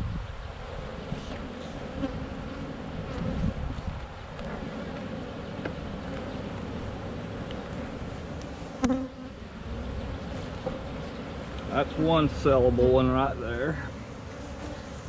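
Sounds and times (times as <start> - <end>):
bees buzzing: 0.7 - 15.0.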